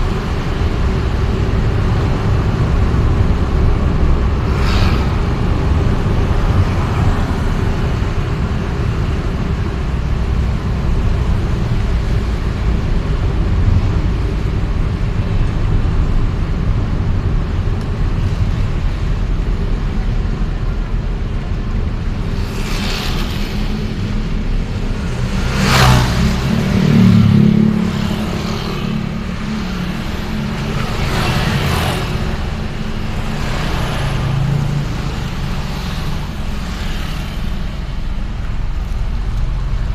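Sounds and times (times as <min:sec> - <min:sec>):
engine and road noise rumble: 0:00.0 - 0:39.9
vehicles swishing past: 0:00.0 - 0:39.9.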